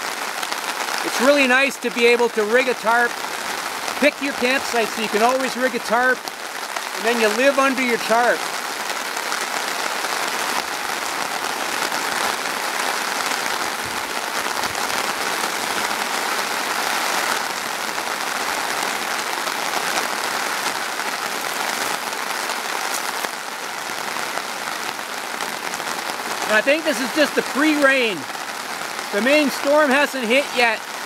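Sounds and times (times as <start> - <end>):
rain on a tarp: 0.0 - 31.0.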